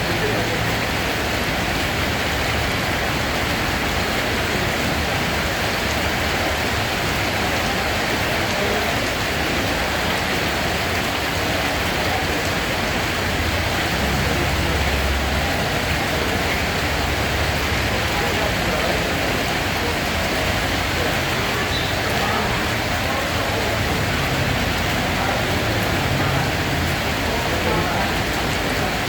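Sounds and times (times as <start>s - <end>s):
steady rain hissing: 0.0s - 29.0s.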